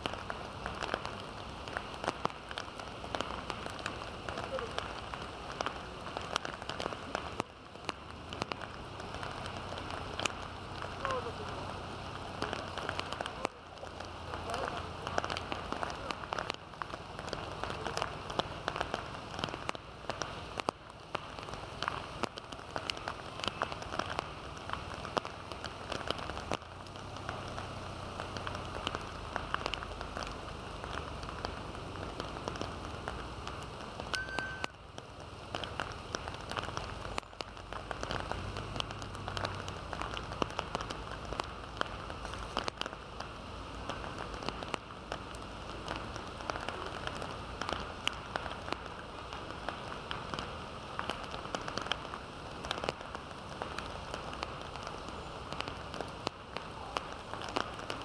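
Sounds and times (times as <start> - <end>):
heavy rain pouring: 0.0 - 58.0
raindrops tapping hard surfaces: 0.0 - 58.0.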